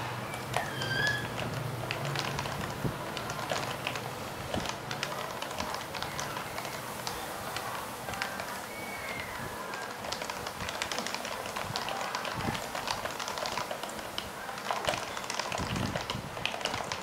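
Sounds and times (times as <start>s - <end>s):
keyboard typing with muted clicks: 0.0s - 17.0s.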